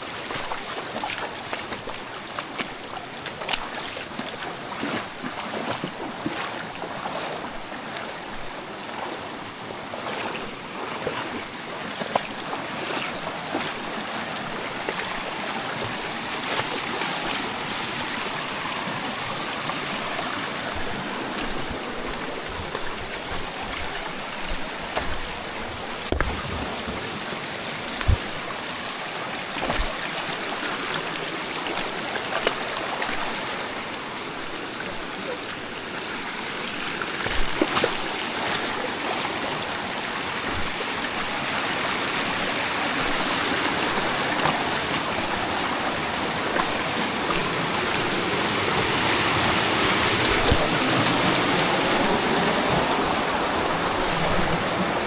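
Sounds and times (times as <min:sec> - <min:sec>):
water rushing in creek and waterfall: 0:00.0 - 0:55.0.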